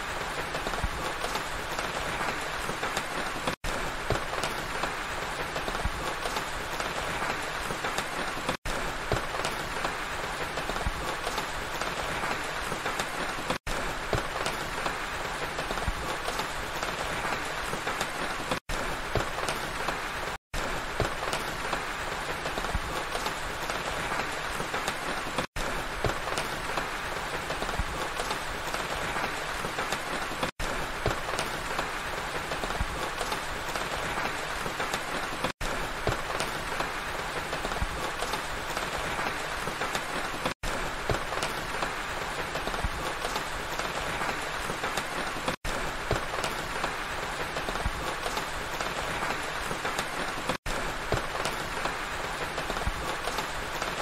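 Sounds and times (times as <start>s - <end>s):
rain falling through pine trees: 0.0s - 54.0s.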